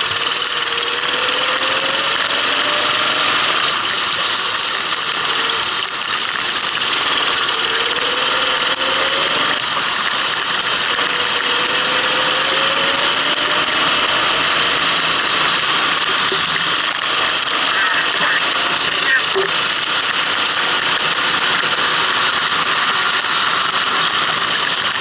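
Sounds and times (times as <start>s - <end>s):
kart engine accelerating: 0.0s - 25.0s.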